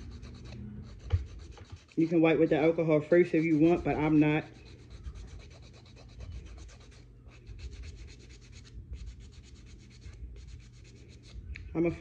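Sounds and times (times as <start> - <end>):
nail file rubbing fingernail: 0.0 - 2.2, 3.1 - 11.7.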